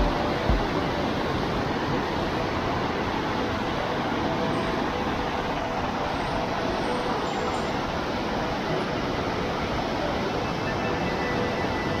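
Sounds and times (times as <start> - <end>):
whitewater rushing over rocks: 0.0 - 12.0.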